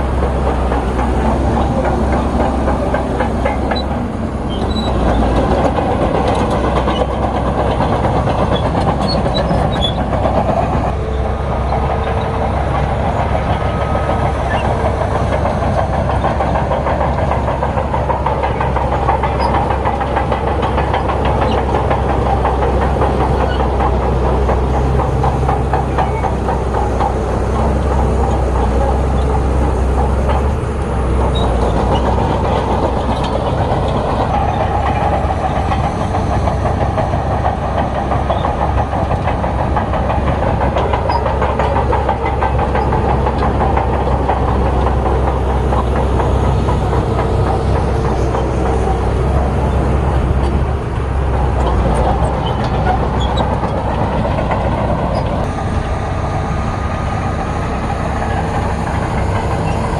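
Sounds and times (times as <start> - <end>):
bulldozer diesel engine running: 0.0 - 59.9
crawler tracks clattering: 0.0 - 59.9.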